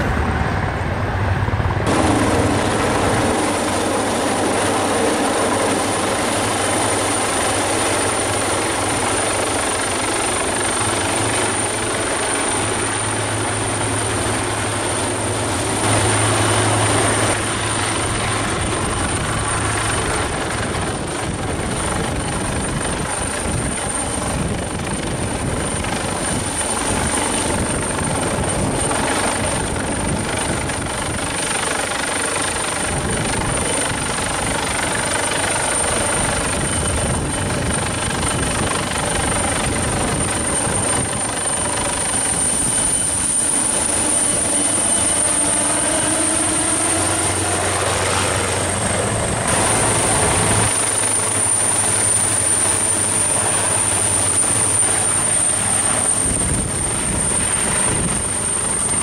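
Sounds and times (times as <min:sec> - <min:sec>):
helicopter hovering overhead: 0:00.0 - 0:59.0.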